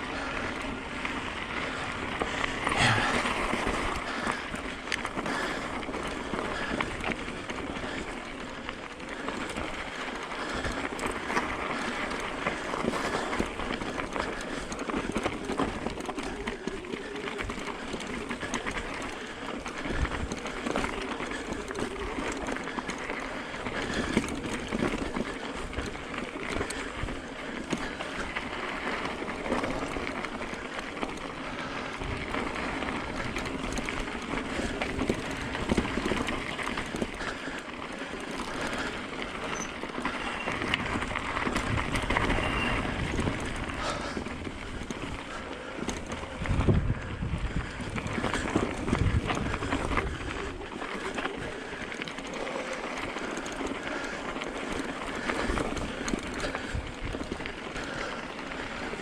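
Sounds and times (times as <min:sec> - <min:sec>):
bike rattling and knocking: 0:00.0 - 0:59.0.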